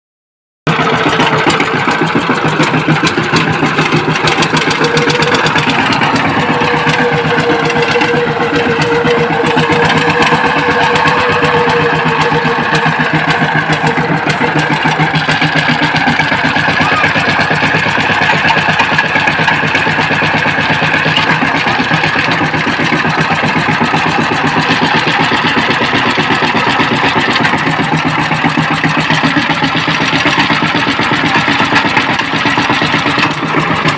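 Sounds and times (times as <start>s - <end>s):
power tiller engine running: 0.7s - 33.9s.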